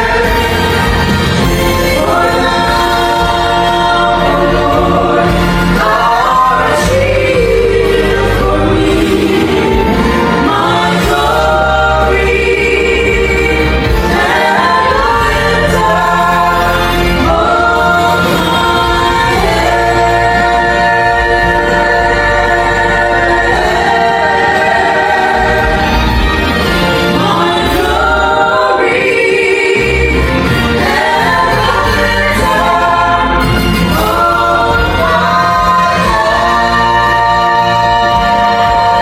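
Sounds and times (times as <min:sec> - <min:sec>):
vocal group singing in harmony: 0:00.0 - 0:39.0.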